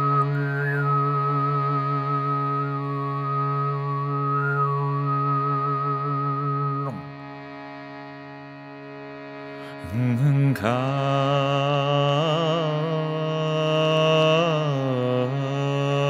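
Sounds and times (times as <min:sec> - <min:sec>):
shruti box drone: 0:00.0 - 0:16.0.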